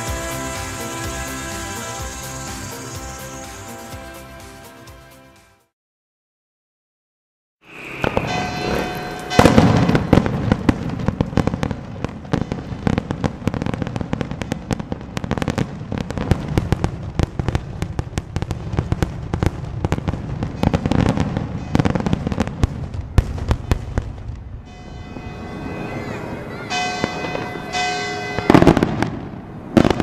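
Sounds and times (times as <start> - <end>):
fireworks bursting: 0.0 - 5.4, 7.7 - 30.0.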